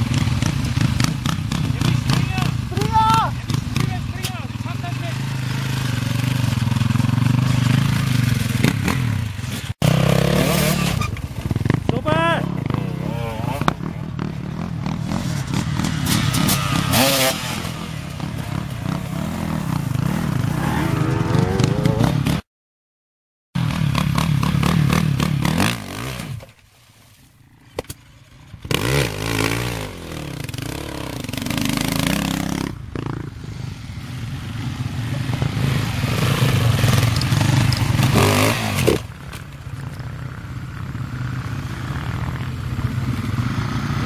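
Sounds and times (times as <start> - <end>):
dirt bike engines revving: 0.0 - 22.4, 23.6 - 26.4, 27.6 - 44.0.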